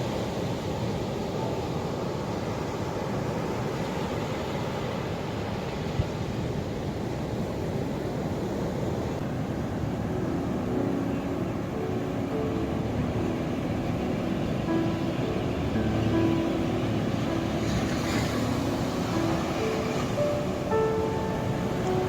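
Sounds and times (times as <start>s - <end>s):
ocean waves washing ashore: 0.0s - 22.0s.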